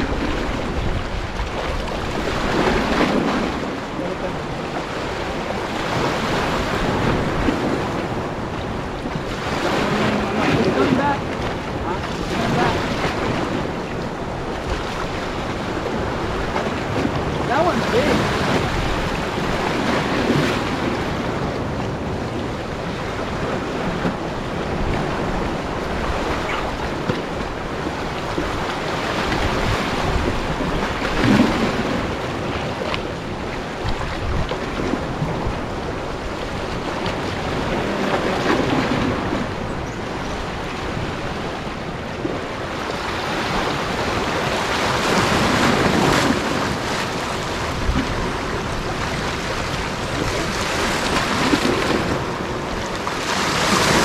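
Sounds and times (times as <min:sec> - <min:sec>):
waves washing over rocks: 0:00.0 - 0:54.0
wind buffeting microphone: 0:00.0 - 0:54.0.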